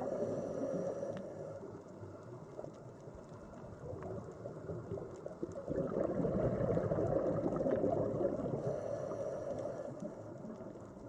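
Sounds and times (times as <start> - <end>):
underwater bubbling and gurgling: 0.0 - 11.0.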